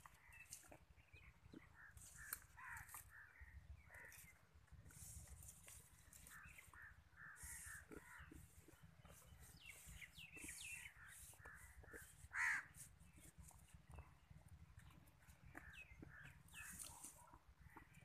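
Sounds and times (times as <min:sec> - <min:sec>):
birds calling and chirping: 0:00.0 - 0:18.0.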